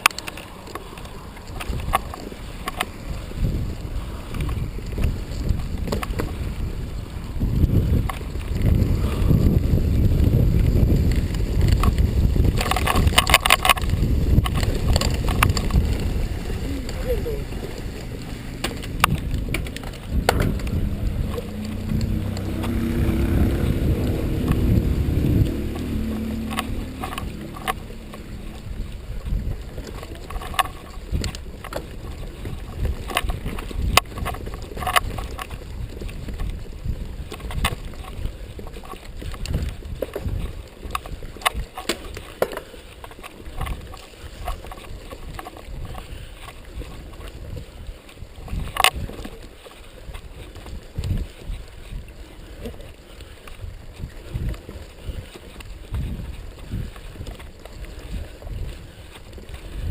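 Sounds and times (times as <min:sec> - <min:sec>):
bike rattling and knocking: 0:00.0 - 0:59.9
wind rumble on microphone: 0:00.0 - 0:59.9.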